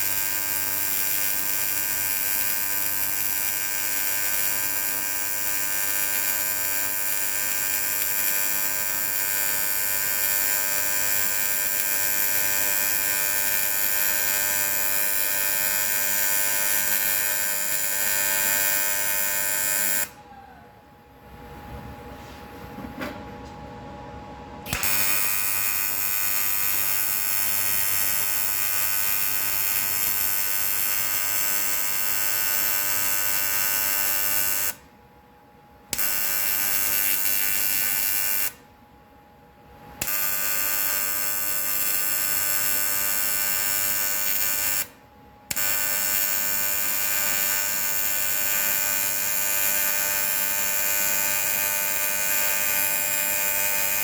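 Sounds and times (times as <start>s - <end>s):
welding arc buzzing: 0.0s - 20.2s, 24.7s - 34.9s, 35.9s - 38.6s, 40.0s - 54.0s.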